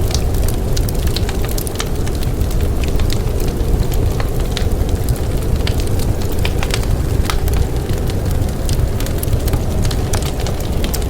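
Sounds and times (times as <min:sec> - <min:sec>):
low rumble of wind: 0:00.0 - 0:11.0
wood fire crackling and popping: 0:00.0 - 0:11.0.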